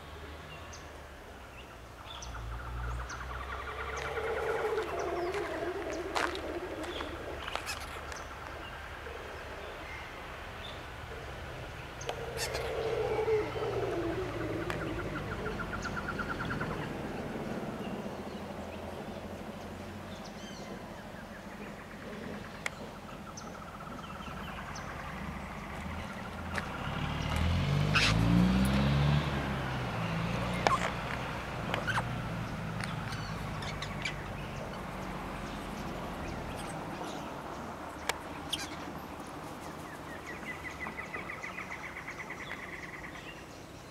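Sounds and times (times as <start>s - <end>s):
vehicle engine hum: 0.0s - 43.9s
birds trilling: 2.0s - 29.0s, 29.8s - 43.9s.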